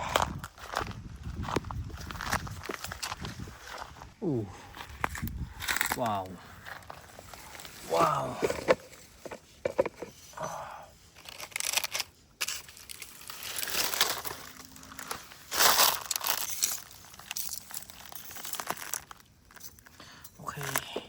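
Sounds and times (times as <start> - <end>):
crinkling and rustling handling noise: 0.2 - 21.0.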